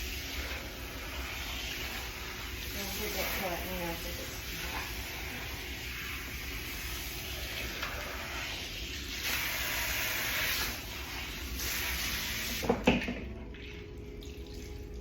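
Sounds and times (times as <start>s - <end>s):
sink sprayer hissing water: 0.0s - 13.2s.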